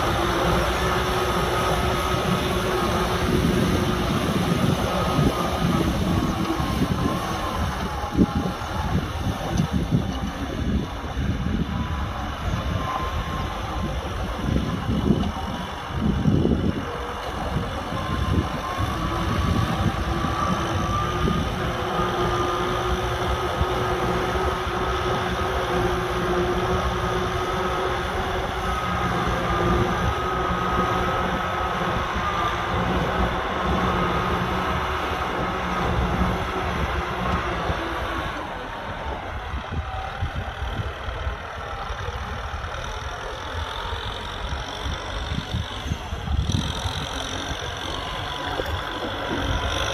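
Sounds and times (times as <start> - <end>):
tractor diesel engine under load: 0.0 - 49.9.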